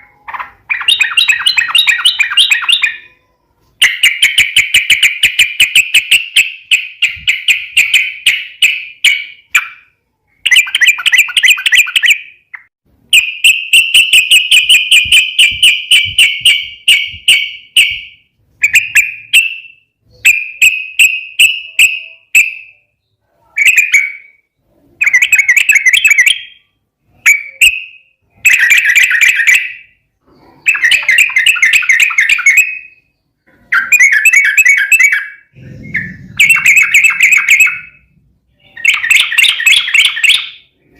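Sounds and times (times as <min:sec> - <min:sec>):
bird chattering: 0:00.0 - 0:22.6, 0:28.5 - 0:40.9.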